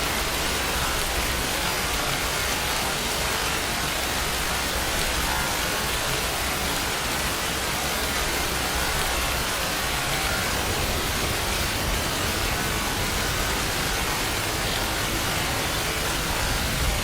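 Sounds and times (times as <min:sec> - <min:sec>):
steady rain hissing: 0:00.0 - 0:17.0.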